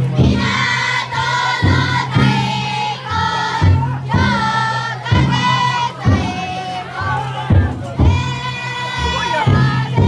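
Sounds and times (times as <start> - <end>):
big drum heavy strikes: 0.0 - 10.0
crowd chanting: 0.0 - 10.0.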